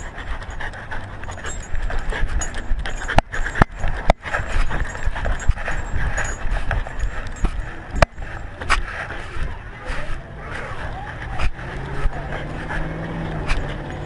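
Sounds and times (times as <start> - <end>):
camera rattling against dog collar: 0.0 - 9.6, 10.6 - 14.0.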